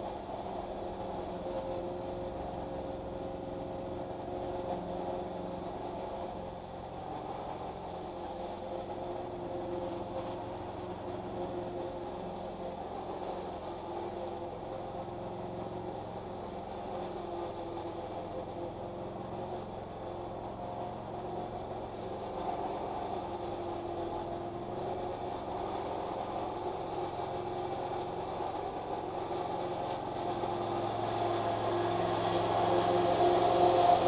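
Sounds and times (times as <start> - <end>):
small petrol engine droning: 0.0 - 34.0.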